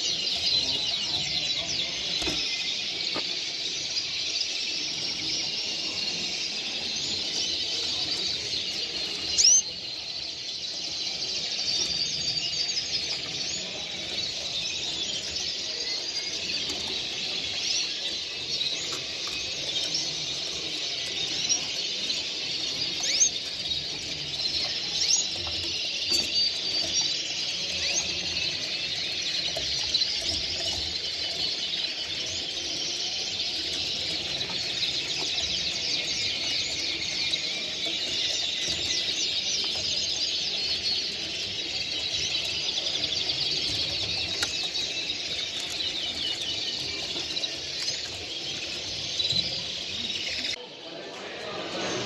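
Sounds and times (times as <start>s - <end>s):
songbirds chirping and singing: 0.0s - 52.0s.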